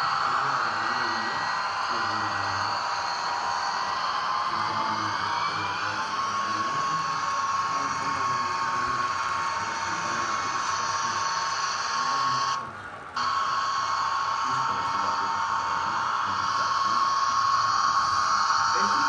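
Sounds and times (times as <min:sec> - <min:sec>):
model trains high-pitched whine: 0:00.0 - 0:19.0.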